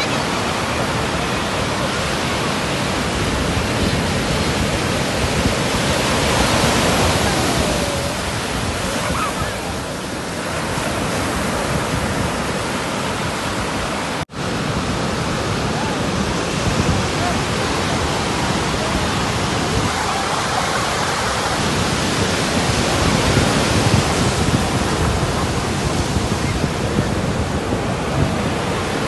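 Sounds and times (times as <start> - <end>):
surf breaking on sand: 0.0 - 29.0.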